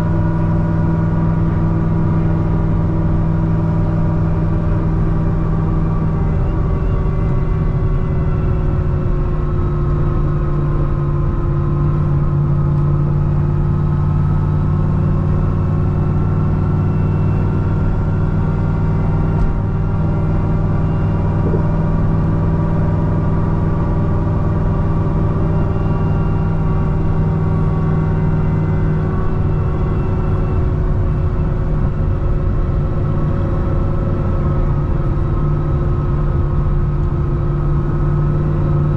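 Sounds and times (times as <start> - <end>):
car engine droning at cruise: 0.0 - 38.9.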